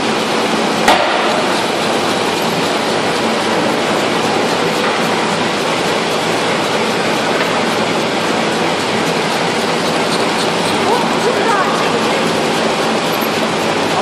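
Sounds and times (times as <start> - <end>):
packaging machine running: 0.0 - 14.0.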